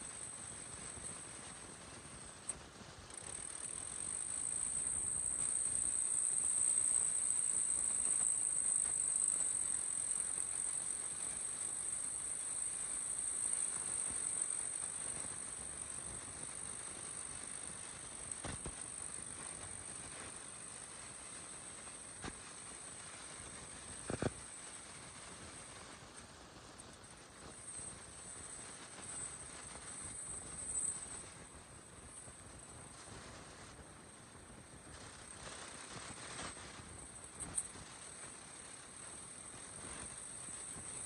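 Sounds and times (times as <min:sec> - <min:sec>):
high-pitched whine: 0:00.0 - 0:41.0.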